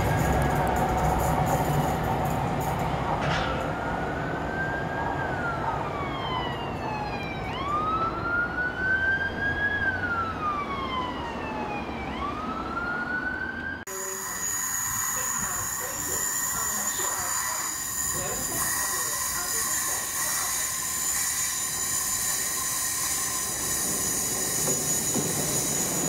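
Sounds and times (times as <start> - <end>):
siren wailing: 0.0 - 2.1, 3.4 - 26.0
passing train running: 0.0 - 8.7, 9.3 - 26.0.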